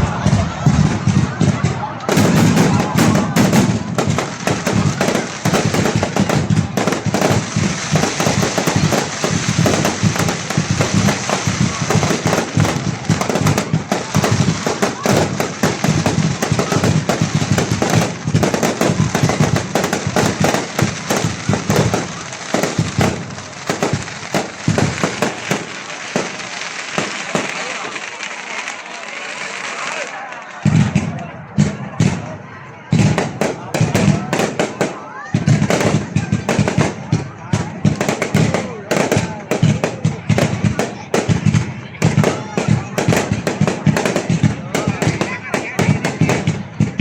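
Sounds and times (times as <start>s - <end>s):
fireworks crackling: 0.0s - 47.0s.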